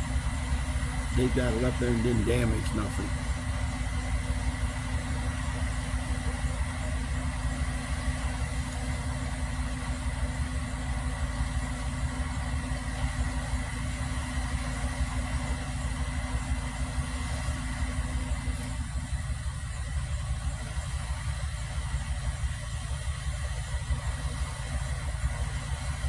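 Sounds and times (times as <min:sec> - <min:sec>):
faint steady hum: 0:00.0 - 0:26.0
truck engine idling: 0:00.0 - 0:26.0.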